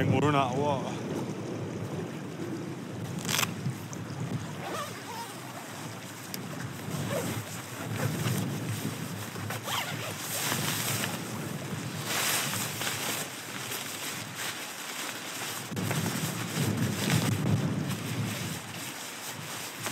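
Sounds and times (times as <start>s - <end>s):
wind blowing over microphone: 0.0s - 14.6s, 15.6s - 19.9s
rustling of camping gear: 3.0s - 19.9s.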